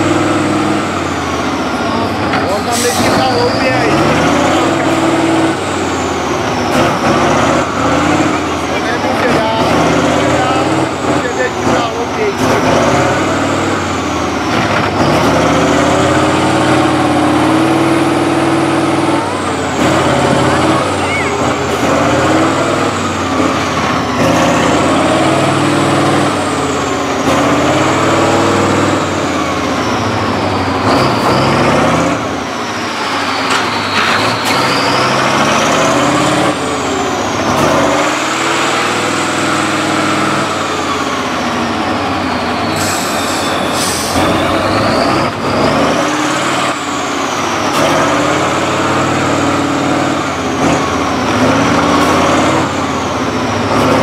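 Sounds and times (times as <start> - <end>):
tractor engine revving hard: 0.0 - 54.0.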